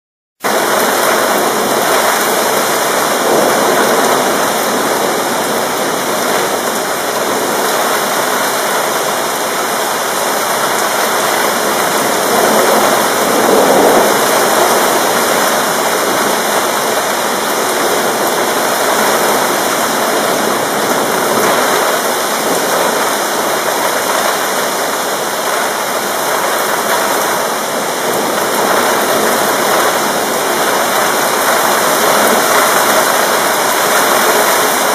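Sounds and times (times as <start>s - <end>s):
rain pouring: 0.4s - 34.9s.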